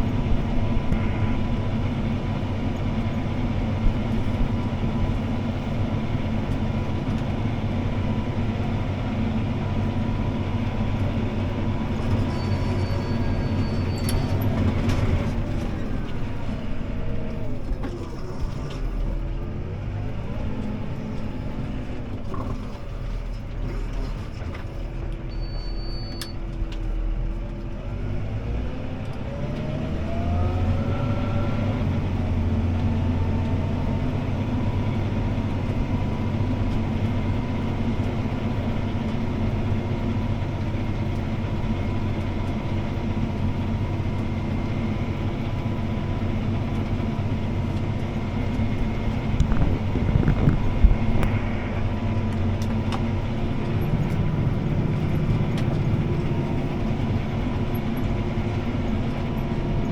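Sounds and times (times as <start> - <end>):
tractor diesel engine: 0.0 - 59.9.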